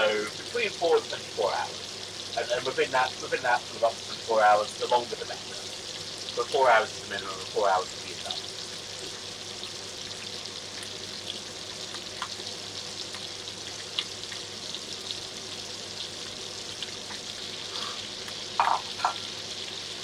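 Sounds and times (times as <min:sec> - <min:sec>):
oil popping and crackling: 0:00.0 - 0:19.7
chicken sizzling in a frying pan: 0:00.0 - 0:20.0.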